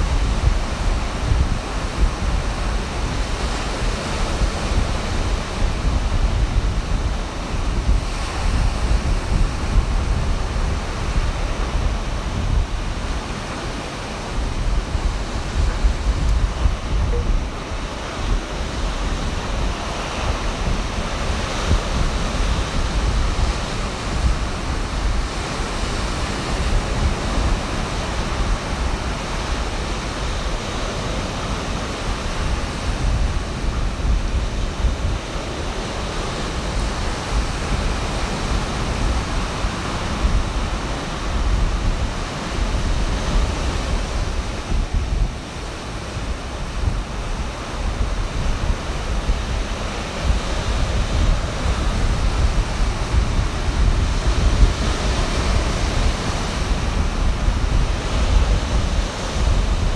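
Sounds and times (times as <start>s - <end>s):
ocean waves breaking: 0.0s - 59.9s
wind buffeting microphone: 0.0s - 59.9s.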